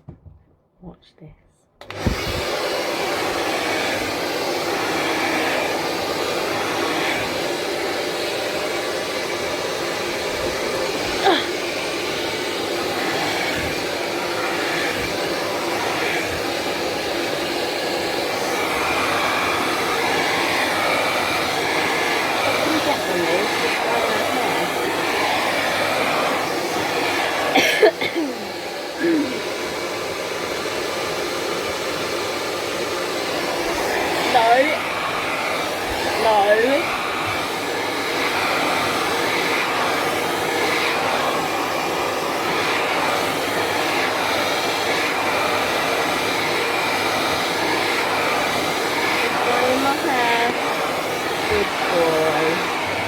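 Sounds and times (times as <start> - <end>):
hair dryer running: 1.8 - 53.0.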